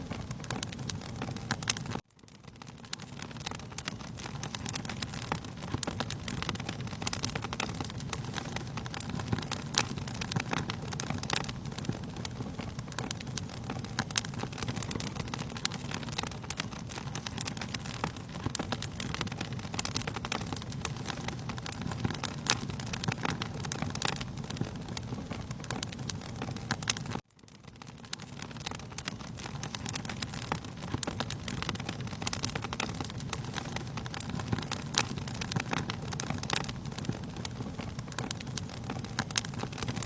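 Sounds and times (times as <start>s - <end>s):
low rush of flames: 0.0s - 40.0s
wood fire crackling and popping: 0.0s - 40.0s.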